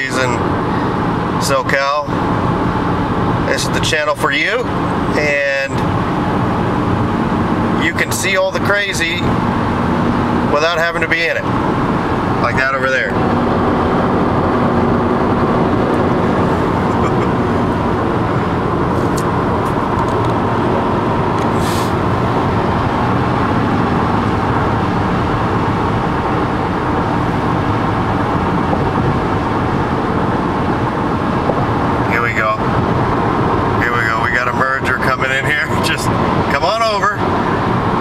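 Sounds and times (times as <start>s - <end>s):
car road noise from inside cabin: 0.0s - 38.0s.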